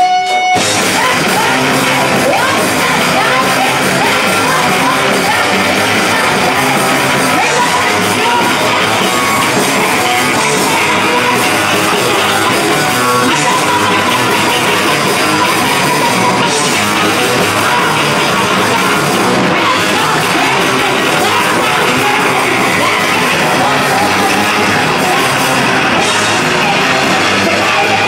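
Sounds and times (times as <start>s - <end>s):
drums: 0.0s - 28.0s
electric guitars: 0.0s - 28.0s
woman singing into microphone: 0.6s - 28.0s.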